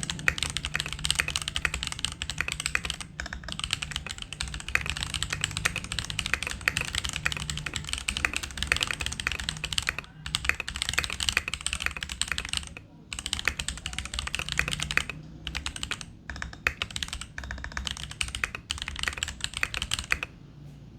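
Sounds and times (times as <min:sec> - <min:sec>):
fast keyboard typing: 0:00.0 - 0:20.4.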